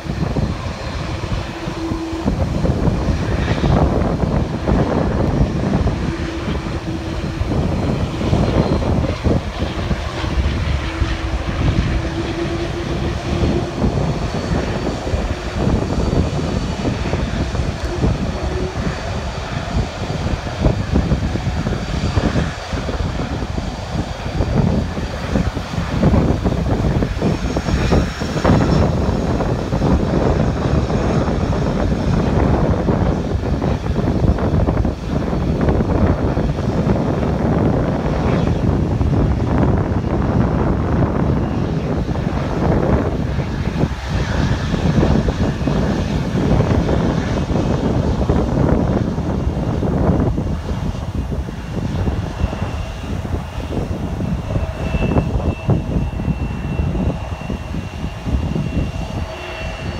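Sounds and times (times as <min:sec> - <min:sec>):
jet engines humming: 0:00.0 - 0:59.9
wind rumble on microphone: 0:00.0 - 0:59.9.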